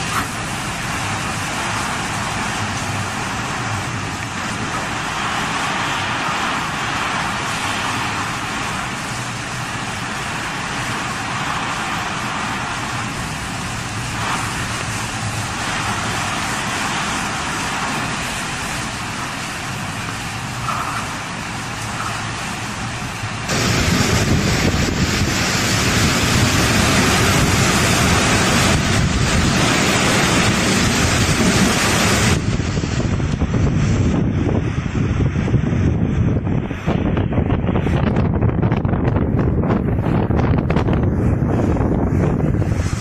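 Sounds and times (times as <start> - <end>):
storm wind driving rain: 0.0 - 43.0.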